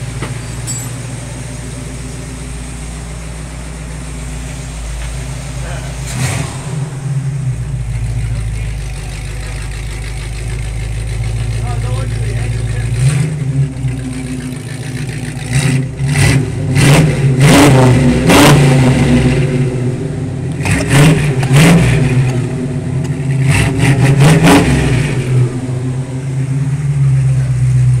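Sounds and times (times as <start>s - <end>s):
engine idling and revving: 0.0s - 28.0s.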